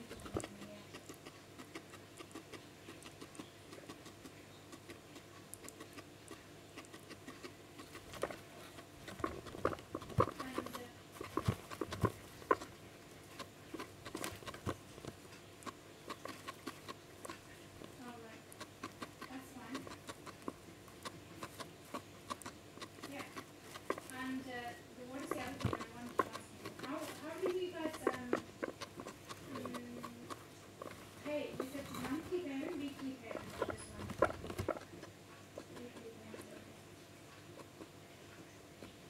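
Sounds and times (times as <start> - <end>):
guinea pig chewing hay: 0.0 - 39.0.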